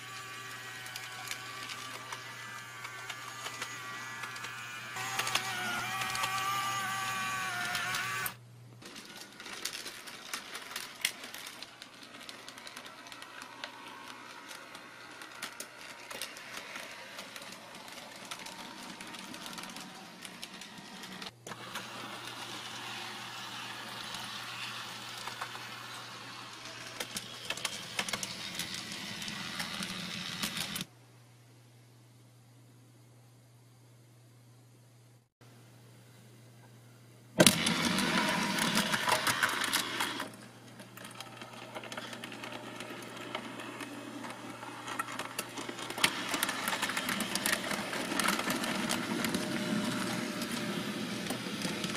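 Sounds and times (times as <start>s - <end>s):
small electric motors whirring: 0.0s - 30.9s, 37.4s - 51.9s
wheels clicking on rails: 0.0s - 30.9s, 37.4s - 51.9s.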